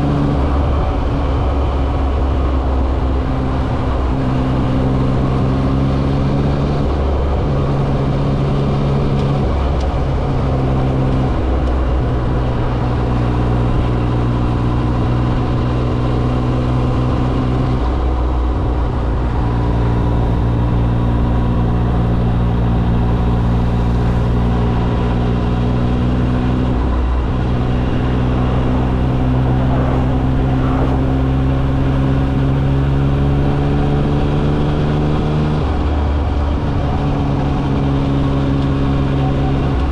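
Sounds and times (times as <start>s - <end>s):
motorcycle engine revving and shifting: 0.0s - 39.9s.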